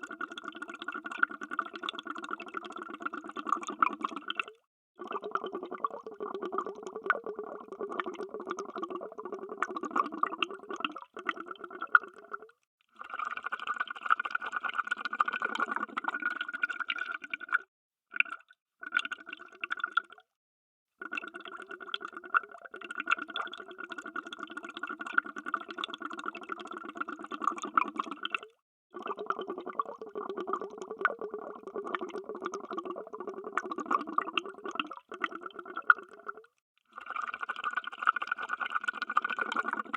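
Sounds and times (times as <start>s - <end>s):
underwater bubbles gurgling: 0.0s - 12.5s, 14.8s - 17.6s, 21.1s - 39.9s.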